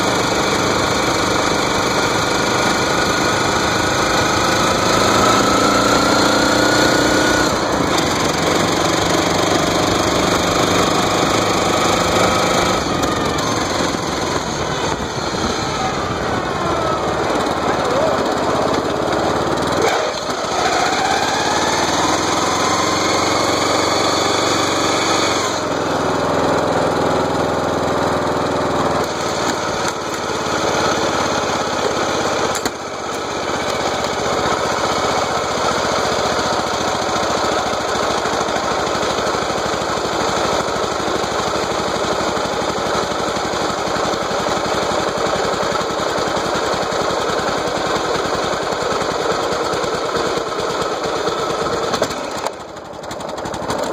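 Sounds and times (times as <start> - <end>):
riding mower engine running: 0.0 - 53.9.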